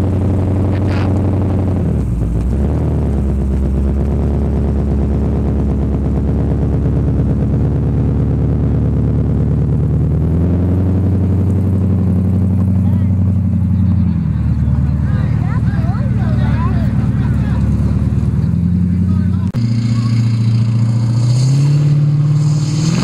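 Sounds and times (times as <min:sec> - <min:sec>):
car engine idling lumpily: 0:00.0 - 0:21.4.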